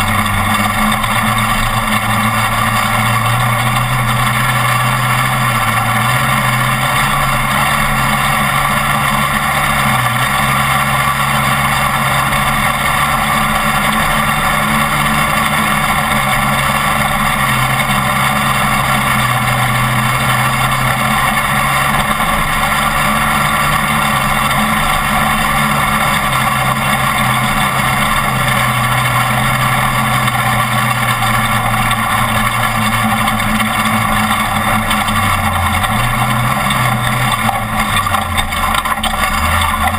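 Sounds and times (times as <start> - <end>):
truck engine running hard: 0.0 - 39.9
wind and road noise: 0.0 - 39.9.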